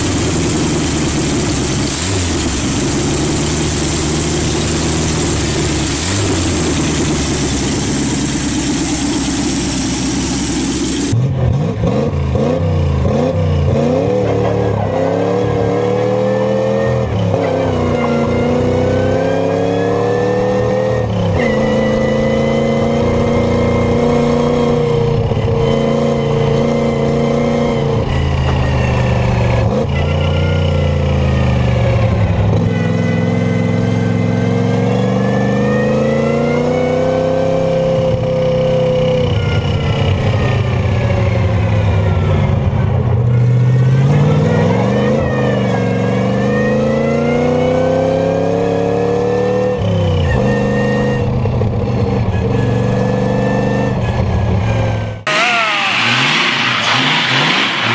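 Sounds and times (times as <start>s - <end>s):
engine running under load: 0.0s - 57.9s.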